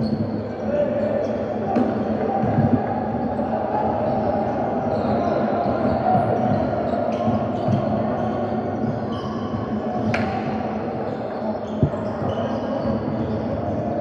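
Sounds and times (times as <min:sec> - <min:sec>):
court and crowd noise: 0:00.0 - 0:14.0.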